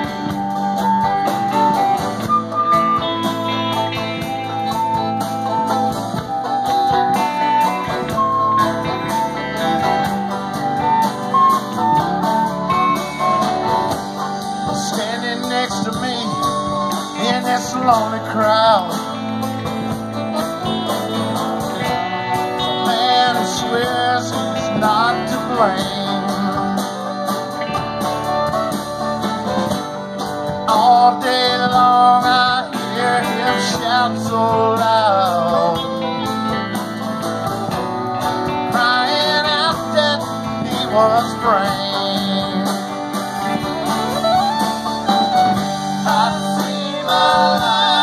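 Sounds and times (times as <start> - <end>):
live country band playing: 0.0 - 48.0.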